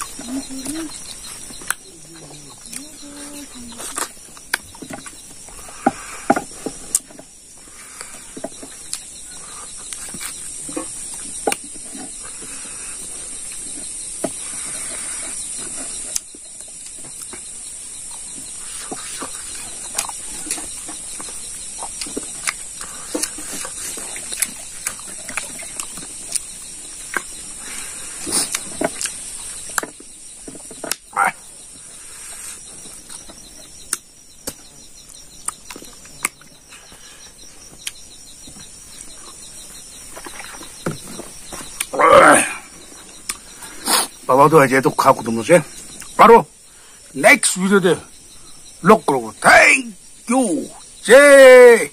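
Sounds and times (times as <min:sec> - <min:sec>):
man chewing and lip-smacking: 0:00.0 - 0:03.0, 0:03.7 - 0:42.0, 0:42.8 - 0:44.3
steady high hiss: 0:00.0 - 0:51.9.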